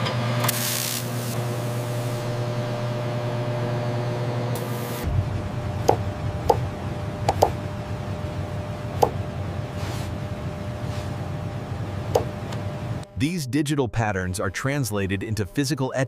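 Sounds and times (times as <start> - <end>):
machine hum: 0.0 - 14.4.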